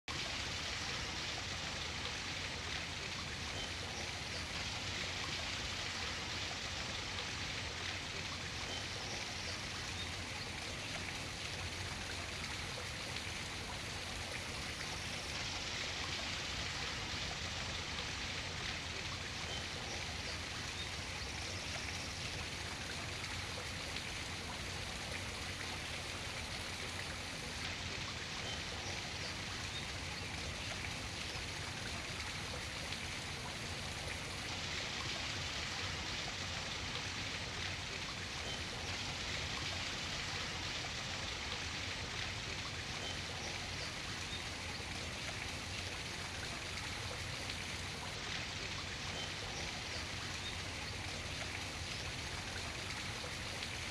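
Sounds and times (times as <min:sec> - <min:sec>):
small waterfall rushing: 0:00.1 - 0:53.9.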